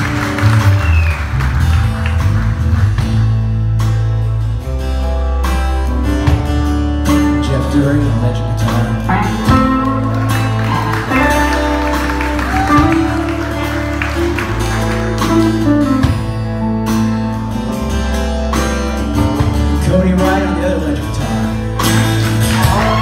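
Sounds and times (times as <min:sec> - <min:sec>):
bass guitar: 0:00.0 - 0:23.0
drum kit: 0:00.0 - 0:23.0
electric guitars: 0:00.0 - 0:23.0.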